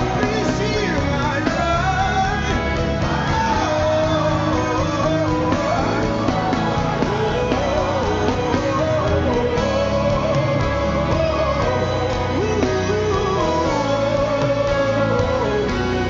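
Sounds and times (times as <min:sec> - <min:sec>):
person singing: 0:00.0 - 0:16.0
worship band playing gospel: 0:00.0 - 0:16.0.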